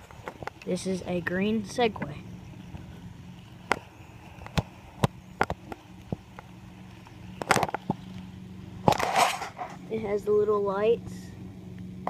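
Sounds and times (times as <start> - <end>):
hoverboard humming: 0.0 - 12.0.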